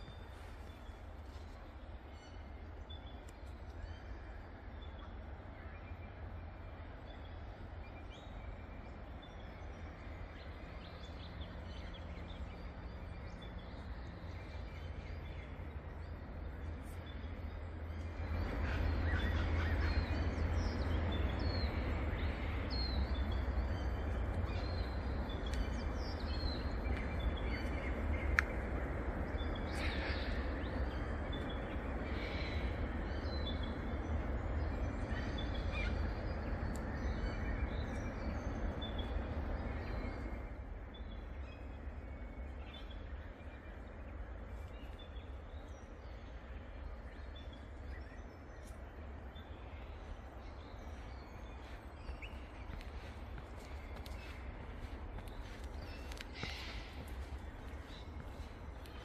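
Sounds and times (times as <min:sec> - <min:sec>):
forest birds chirping and whistling: 0:00.0 - 0:59.0.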